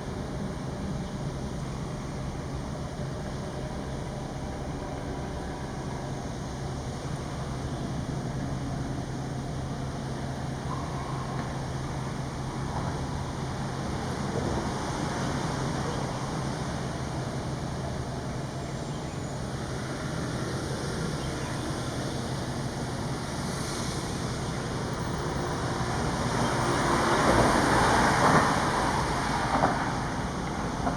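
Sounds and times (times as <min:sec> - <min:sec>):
road traffic hum: 0:00.0 - 0:30.9.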